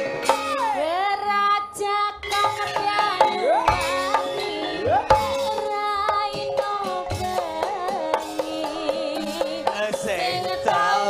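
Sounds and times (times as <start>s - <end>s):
drum strokes: 0.0s - 0.9s, 2.3s - 11.0s
gamelan music: 0.0s - 11.0s
woman singing into a microphone: 0.3s - 11.0s.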